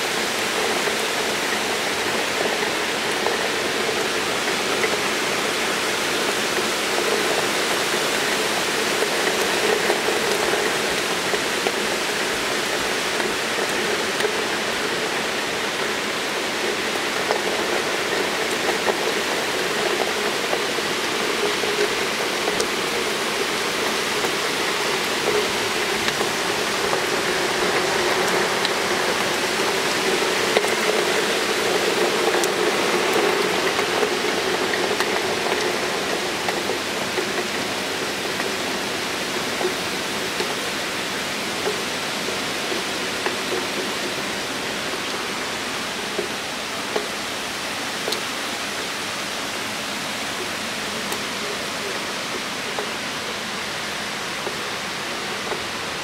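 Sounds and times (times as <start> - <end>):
heavy rain hissing: 0.0 - 56.0
rain drops ticking: 0.0 - 56.0.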